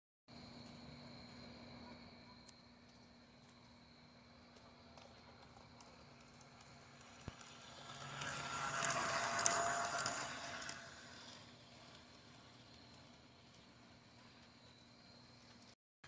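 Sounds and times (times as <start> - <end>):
model train whine and clicking: 2.4 - 15.8.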